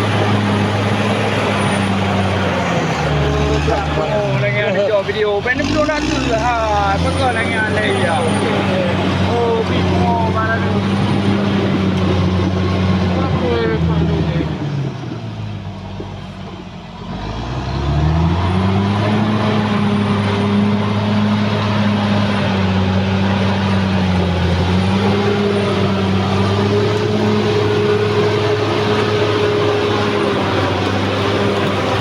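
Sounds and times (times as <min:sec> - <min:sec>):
bulldozer diesel engine revving: 0:00.0 - 0:32.0.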